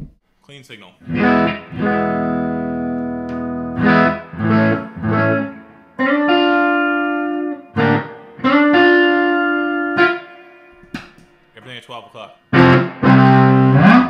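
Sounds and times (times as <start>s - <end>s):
clean electric guitar chords: 1.0s - 11.1s, 12.5s - 14.0s.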